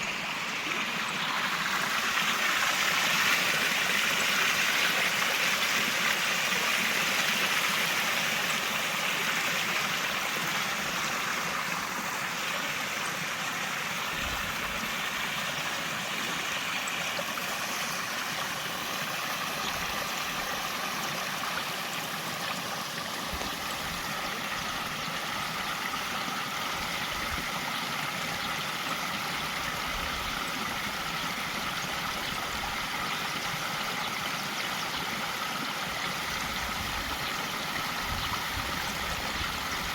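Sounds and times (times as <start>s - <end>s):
water rushing over cascades: 0.0s - 33.4s.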